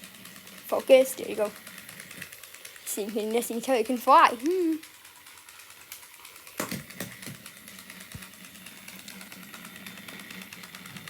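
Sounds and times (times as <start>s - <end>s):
toy helicopter rotors whirring: 0.0s - 11.0s.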